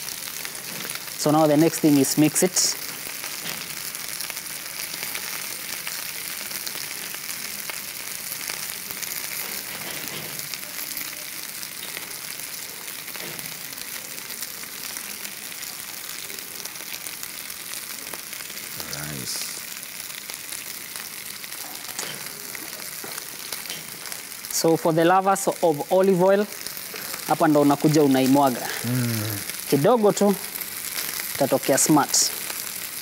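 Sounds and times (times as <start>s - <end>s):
chicken sizzling in a pan: 0.0s - 33.0s.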